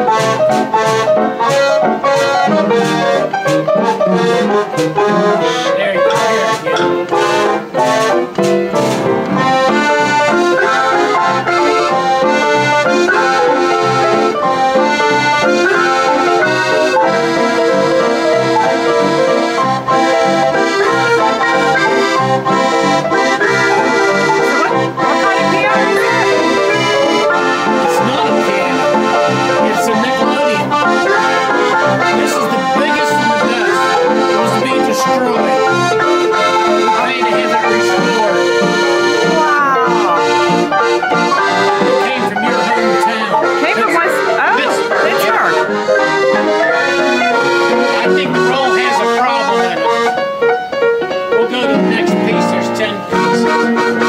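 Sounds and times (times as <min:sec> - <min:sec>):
player piano with accordion: 0:00.0 - 0:54.0.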